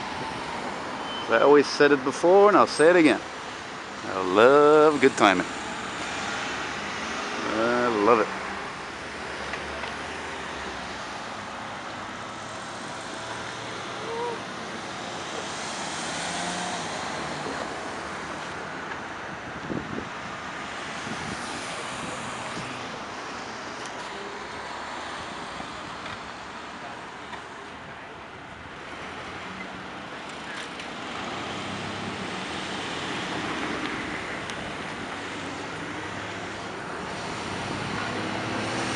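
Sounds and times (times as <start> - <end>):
cars driving past: 0.0 - 38.9
tyres on the road: 0.0 - 38.9.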